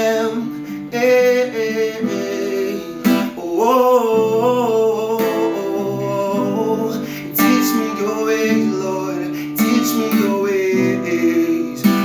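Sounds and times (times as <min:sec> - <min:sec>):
person singing: 0:00.0 - 0:12.0
strummed acoustic guitar: 0:00.0 - 0:12.0.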